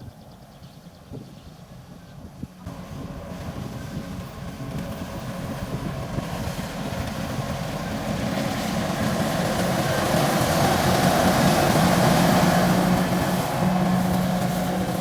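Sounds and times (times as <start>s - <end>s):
combine harvester engine running: 1.7s - 15.0s.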